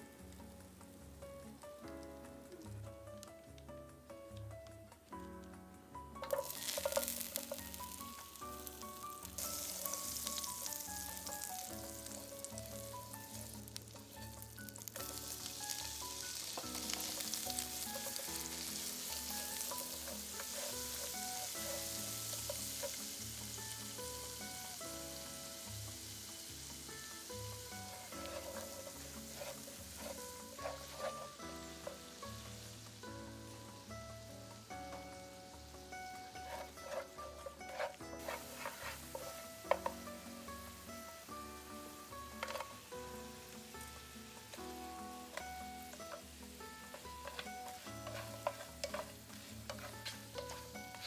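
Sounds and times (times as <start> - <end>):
food sizzling in hot oil: 0.0 - 51.0
light background music: 0.0 - 51.0.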